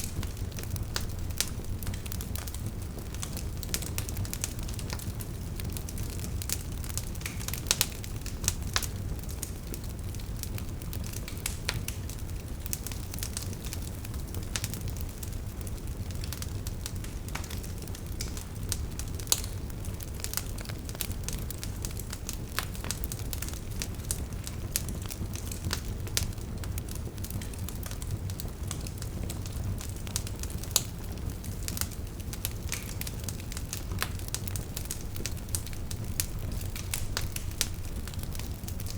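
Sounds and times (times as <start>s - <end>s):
logs crackling and popping: 0.0s - 38.9s
wood fire rumbling: 0.0s - 38.9s.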